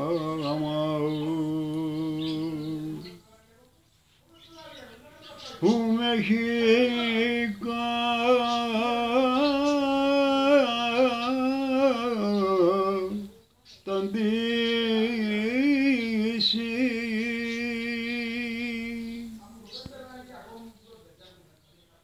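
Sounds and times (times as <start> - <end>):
man singing unaccompanied: 0.0 - 3.6, 4.2 - 21.1.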